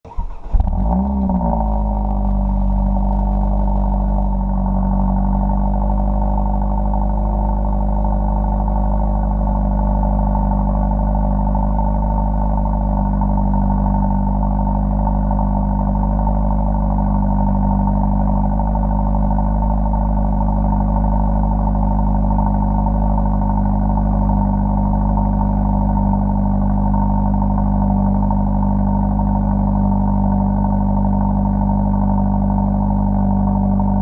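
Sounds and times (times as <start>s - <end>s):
car engine starting and idling: 0.0s - 34.0s.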